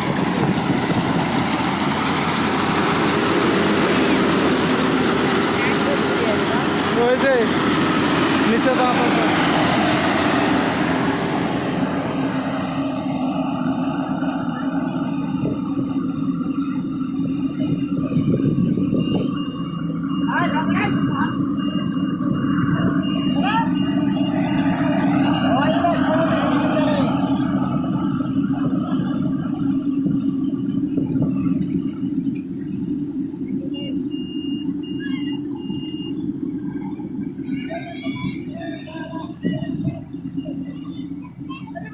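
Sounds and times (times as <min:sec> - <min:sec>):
harvester engine droning: 0:00.0 - 0:41.9
high tone pulses: 0:00.0 - 0:41.9.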